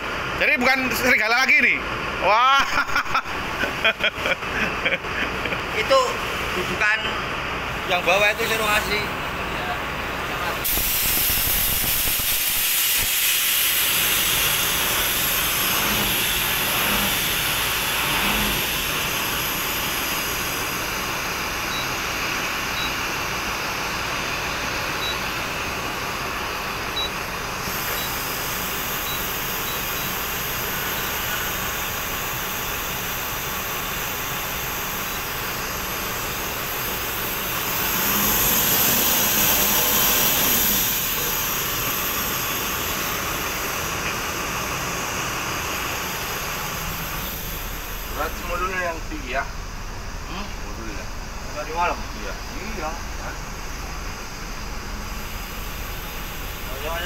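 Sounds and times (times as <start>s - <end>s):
loud hissing in cab: 7.6s - 25.0s, 27.4s - 57.0s.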